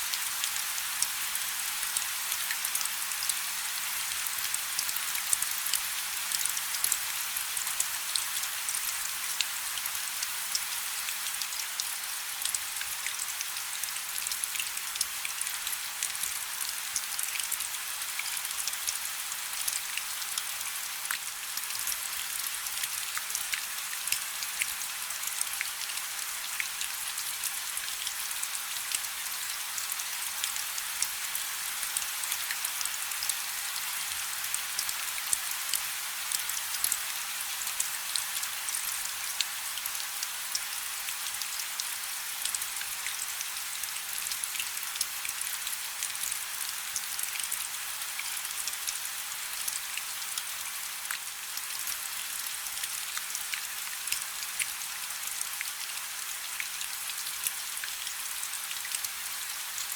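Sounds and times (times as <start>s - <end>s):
rain falling on a river: 0.0s - 59.9s.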